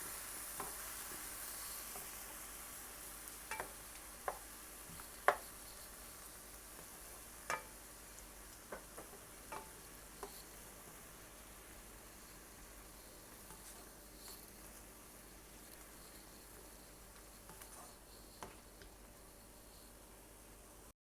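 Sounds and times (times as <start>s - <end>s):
shrimp sizzling in a skillet: 0.0s - 20.9s.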